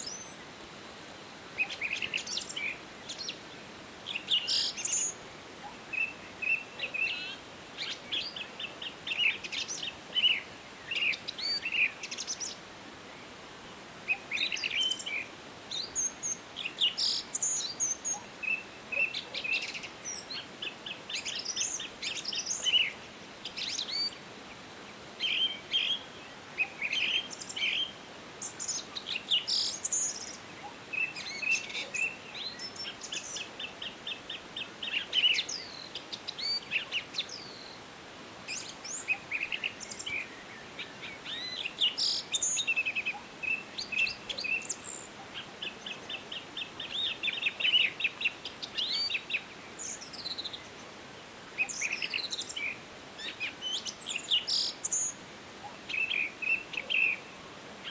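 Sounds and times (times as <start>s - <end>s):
songbirds singing and calling: 0.0s - 0.8s, 1.4s - 57.9s
faint steady hiss: 0.0s - 57.9s.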